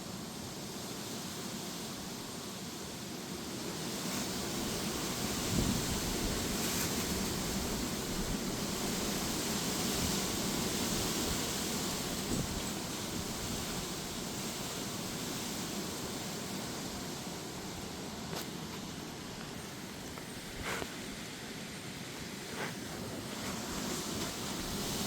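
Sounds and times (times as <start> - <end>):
rain: 0.0 - 25.0
gusty wind: 3.6 - 25.0.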